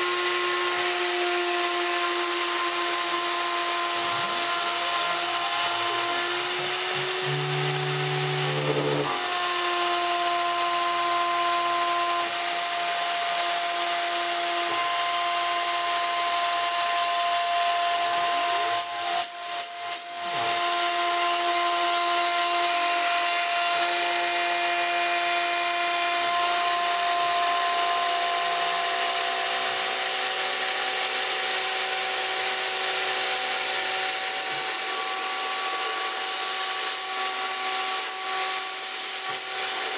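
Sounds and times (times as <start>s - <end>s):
router spindle whine milling metal: 0.0s - 39.9s.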